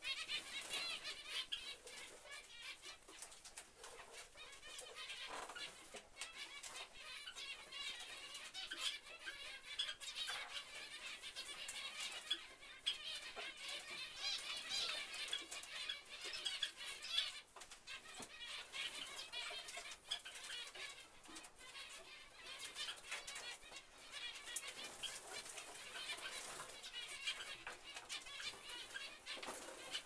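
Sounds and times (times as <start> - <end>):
birds fluttering in cages: 0.0 - 30.0
finches chirping: 0.0 - 30.0.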